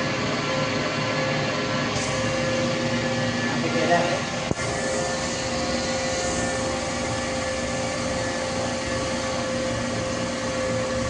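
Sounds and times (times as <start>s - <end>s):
hydraulic pump drone and whine: 0.0s - 11.0s.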